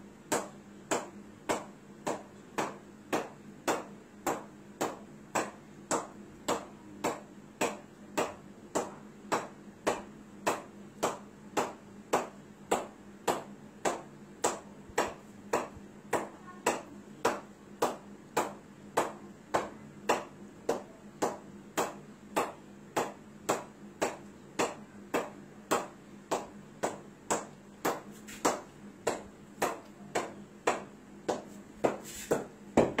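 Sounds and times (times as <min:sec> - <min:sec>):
faint steady hum: 0:00.0 - 0:33.0
cricket bat tapping ball: 0:00.3 - 0:33.0.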